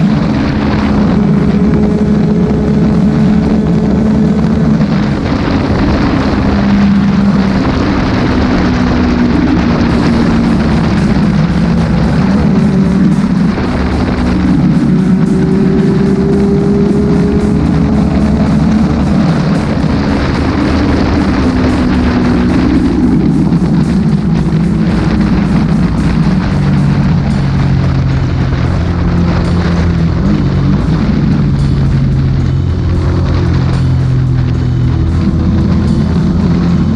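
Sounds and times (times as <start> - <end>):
motorcycle engine running: 0.0 - 36.9
music playing: 0.0 - 36.9
wind rushing: 0.0 - 36.9.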